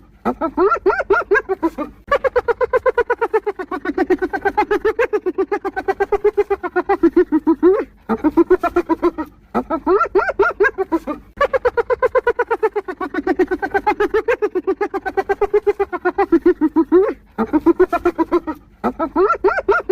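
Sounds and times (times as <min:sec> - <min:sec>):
hyena giggling: 0:00.0 - 0:19.9.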